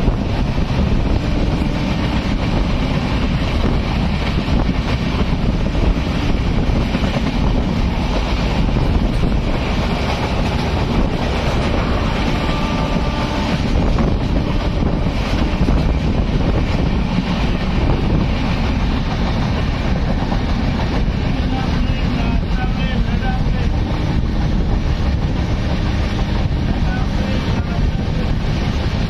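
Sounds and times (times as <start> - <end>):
train wheels rumbling on track: 0.0 - 29.0
wind buffeting microphone: 0.0 - 29.0.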